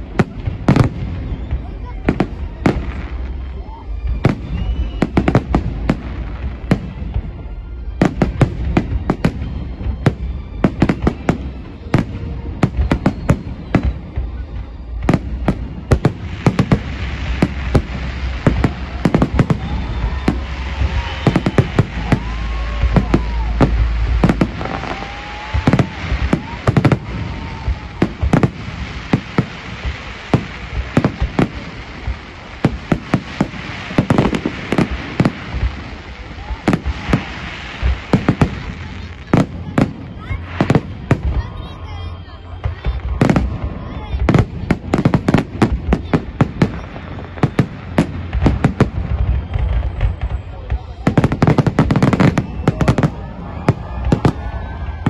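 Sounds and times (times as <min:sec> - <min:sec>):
fireworks bursting: 0:00.0 - 0:55.0
rising and falling fireworks tones: 0:00.0 - 0:55.0.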